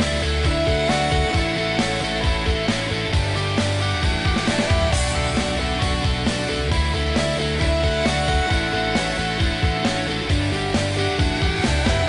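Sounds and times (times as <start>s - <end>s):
rock backing music: 0.0s - 12.0s
steady drum beat: 0.0s - 12.0s.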